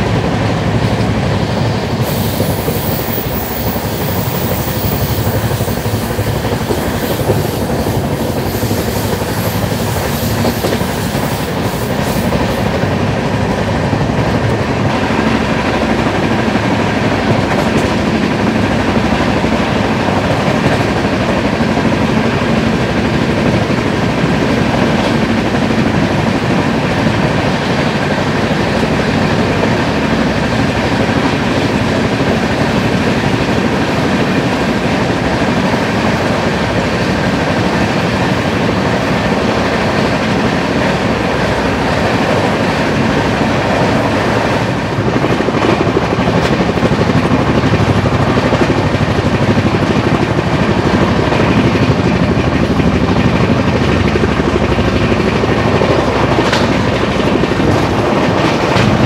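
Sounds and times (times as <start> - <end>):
train wheels rumbling on rails: 0.0 - 59.0
wheels clickety-clack: 0.0 - 59.0.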